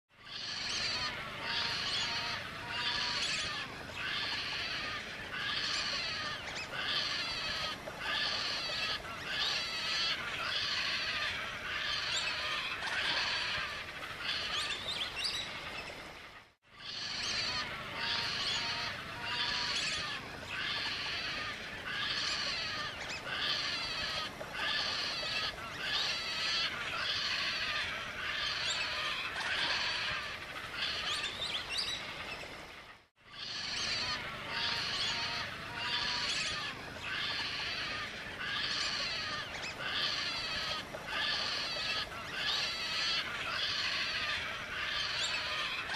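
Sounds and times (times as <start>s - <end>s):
chorus of birds chirping: 0.1s - 45.9s.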